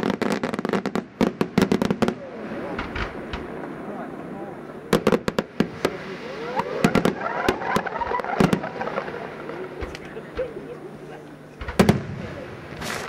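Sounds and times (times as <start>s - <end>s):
firework bangs: 0.0s - 10.7s, 11.5s - 13.0s.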